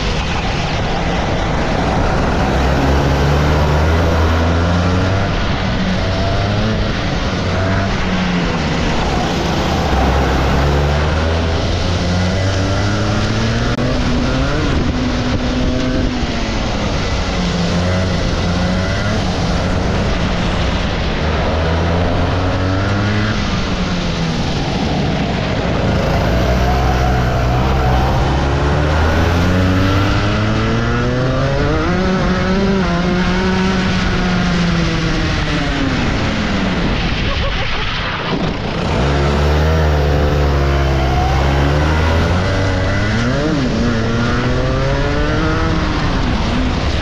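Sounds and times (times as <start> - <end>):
kart engine revving: 0.0 - 47.0.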